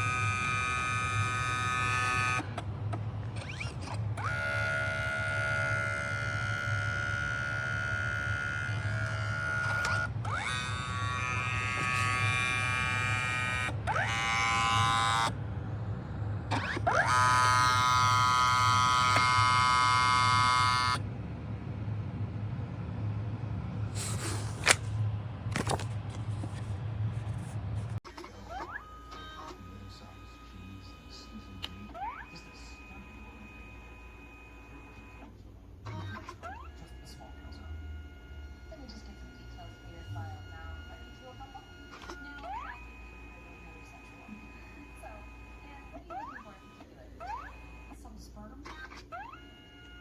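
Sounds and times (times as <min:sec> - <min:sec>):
small motor whining: 0:00.0 - 0:15.5, 0:16.4 - 0:21.1, 0:23.9 - 0:50.0.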